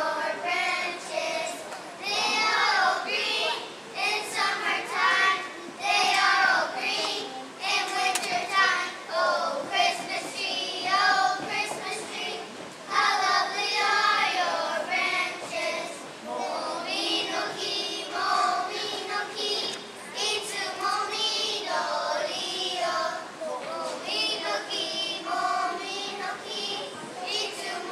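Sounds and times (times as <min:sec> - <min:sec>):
children singing in a choir: 0:00.0 - 0:27.9.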